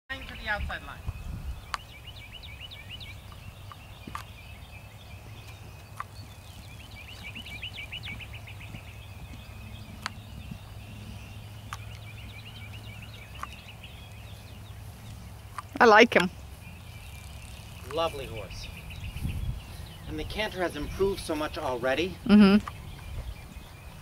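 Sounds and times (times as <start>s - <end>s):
birds chirping: 0.1s - 24.0s.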